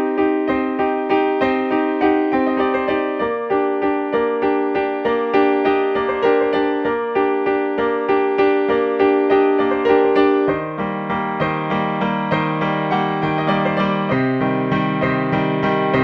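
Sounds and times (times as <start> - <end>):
electric piano notes: 0.0 - 16.0.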